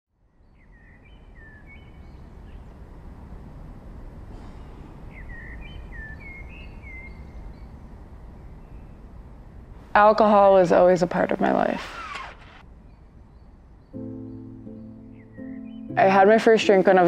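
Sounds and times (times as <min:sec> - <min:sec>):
songbird chirping: 0:00.1 - 0:17.0.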